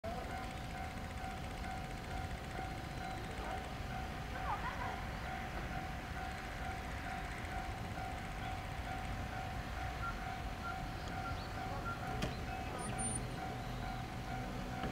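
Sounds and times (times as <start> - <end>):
electric train steady tone: 0.0 - 14.9.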